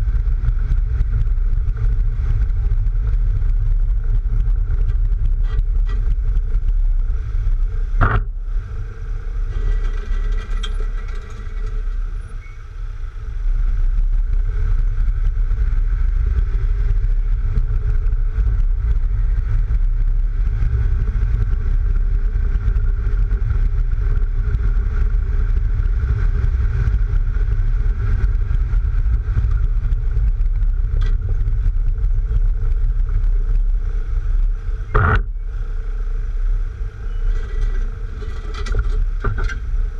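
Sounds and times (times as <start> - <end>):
tyre and road noise: 0.0 - 39.9
wind buffeting camera: 0.0 - 39.9.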